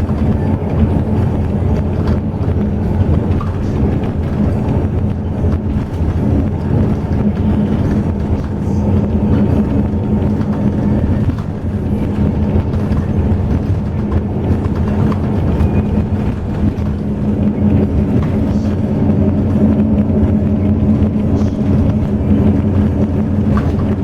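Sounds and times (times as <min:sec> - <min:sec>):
coach engine drone: 0:00.0 - 0:24.0
road noise: 0:00.0 - 0:24.0.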